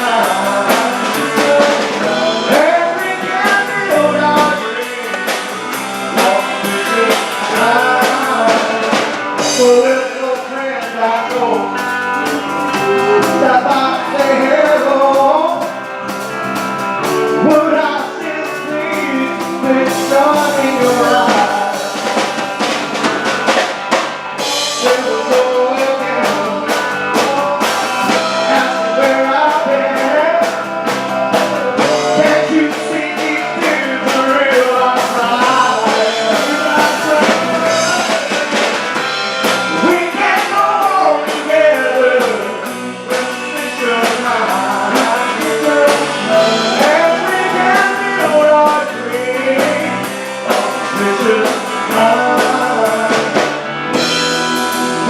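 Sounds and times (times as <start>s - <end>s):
drum kit: 0.0s - 55.0s
lead singing: 0.0s - 55.0s
live rock and roll band: 0.0s - 55.0s.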